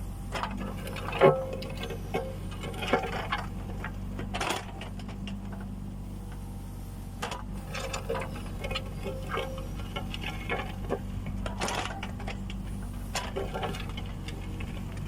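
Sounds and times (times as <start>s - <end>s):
excavator diesel engine running: 0.0s - 15.0s
bucket clanks and scrapes: 0.4s - 5.6s, 7.3s - 14.9s.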